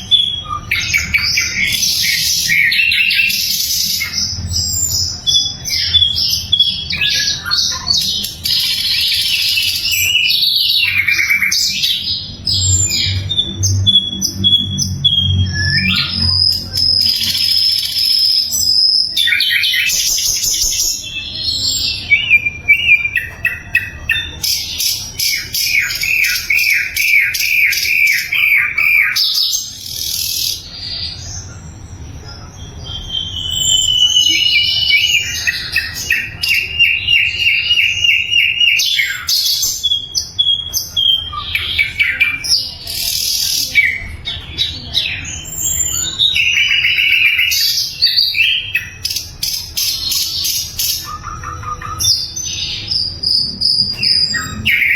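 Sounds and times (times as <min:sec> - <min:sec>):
bird singing trills and whistles: 0:00.0 - 0:54.9.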